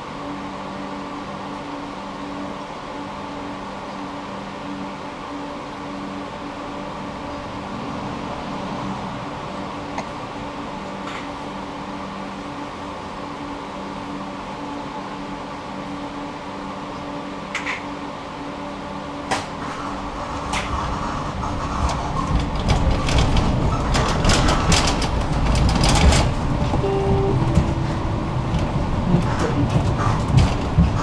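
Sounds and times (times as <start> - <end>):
electric tram humming: 0.0 - 31.0
wheels rumbling on rail: 0.0 - 31.0.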